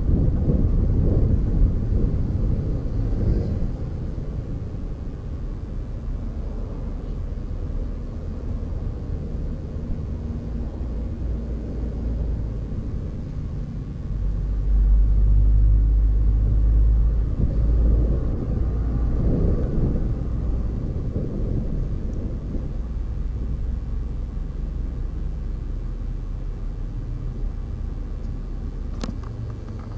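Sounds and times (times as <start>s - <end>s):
vehicle rumbling along road: 0.0s - 29.9s.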